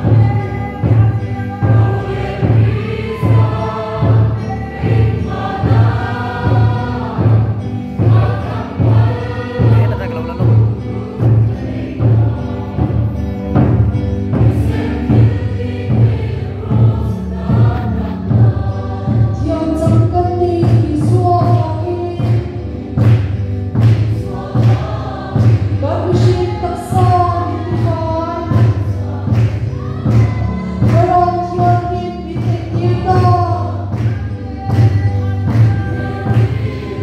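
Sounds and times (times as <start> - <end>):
congregation singing a hymn: 0.0 - 37.0
large drum beating: 0.0 - 37.0.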